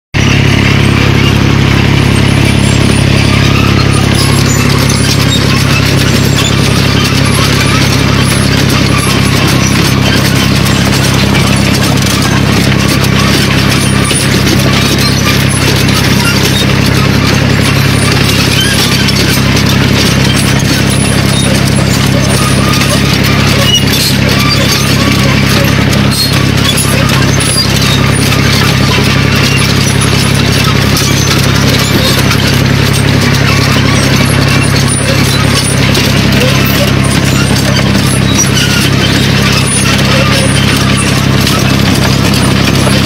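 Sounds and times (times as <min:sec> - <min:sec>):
rotary tiller churning soil: 0:00.1 - 0:43.0
tractor engine running: 0:00.1 - 0:43.0.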